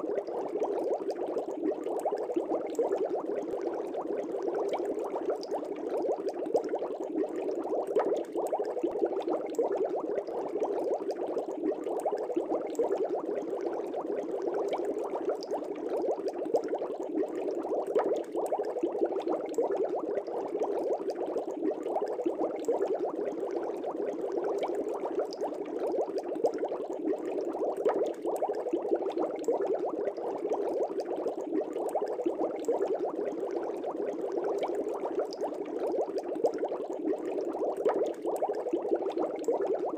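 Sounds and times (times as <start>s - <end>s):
fish tank bubbling: 0.0s - 39.9s.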